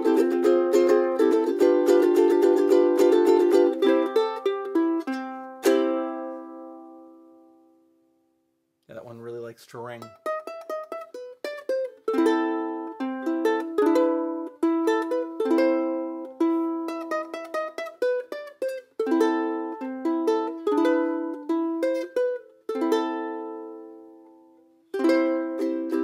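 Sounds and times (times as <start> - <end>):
ukulele strumming chords: 0.0 - 8.3, 9.2 - 26.0.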